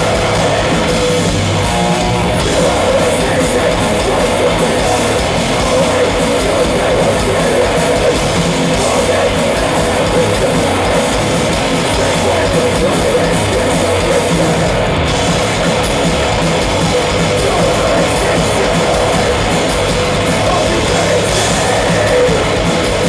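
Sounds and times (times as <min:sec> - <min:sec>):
distorted guitars: 0:00.0 - 0:23.0
drums: 0:00.0 - 0:23.0
live heavy metal band: 0:00.0 - 0:23.0.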